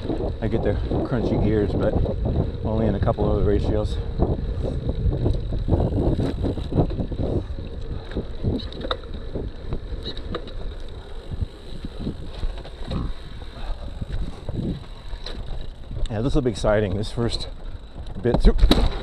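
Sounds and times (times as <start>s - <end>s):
bike knocks and rattles: 0.0s - 19.0s
bike tyre rumble on dirt: 0.0s - 19.0s
wind buffeting microphone: 0.0s - 19.0s.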